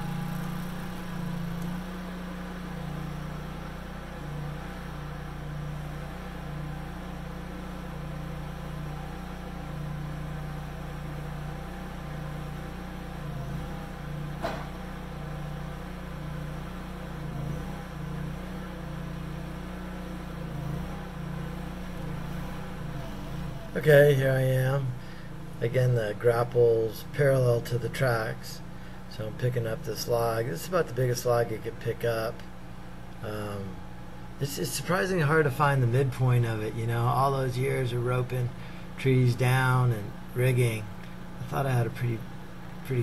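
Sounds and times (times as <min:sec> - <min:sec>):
skid steer engine running: 0:00.0 - 0:43.0.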